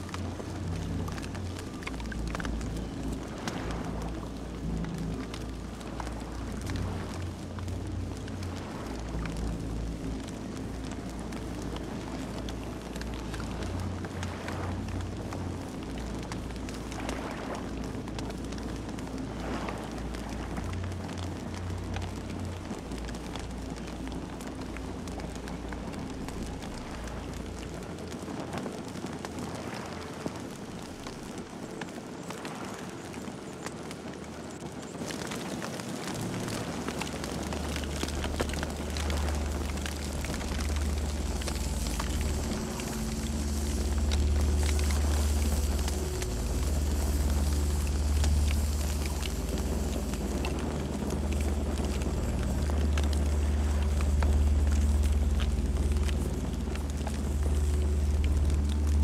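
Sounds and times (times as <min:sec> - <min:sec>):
deep low rumble: 0:00.0 - 0:31.5, 0:36.0 - 0:59.0
campfire crackling and popping: 0:00.0 - 0:59.0.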